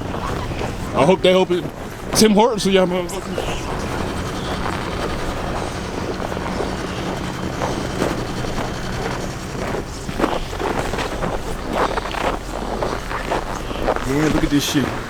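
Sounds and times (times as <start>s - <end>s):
footsteps in snow: 0.0s - 15.0s
vehicle engine idling: 0.0s - 15.0s
wind noise on microphone: 0.0s - 15.0s.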